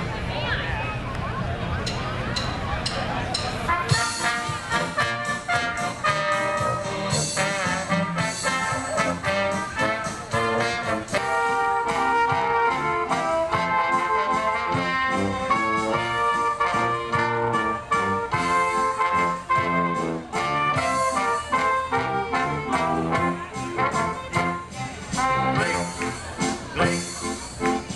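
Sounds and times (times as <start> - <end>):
oompah band playing: 1.8 - 27.9.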